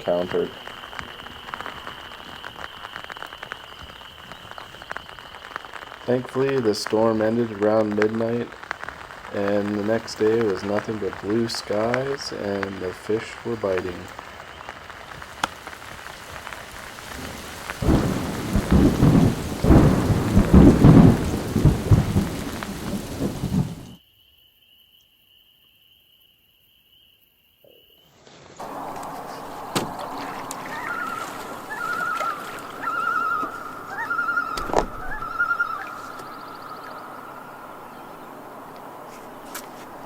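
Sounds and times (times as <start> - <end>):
heavy rain: 0.0 - 24.0, 28.6 - 40.0
rolling thunder: 0.0 - 24.0, 28.6 - 40.0.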